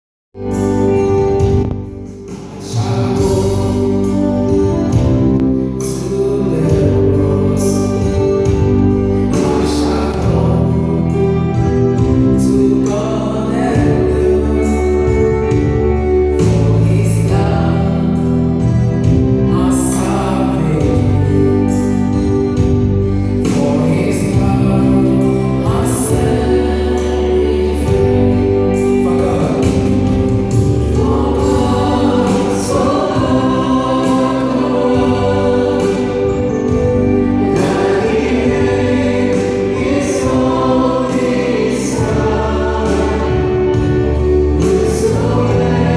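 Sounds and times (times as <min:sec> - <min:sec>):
bass and keyboard accompaniment: 0:00.4 - 0:45.9
group singing gospel music: 0:02.5 - 0:45.9.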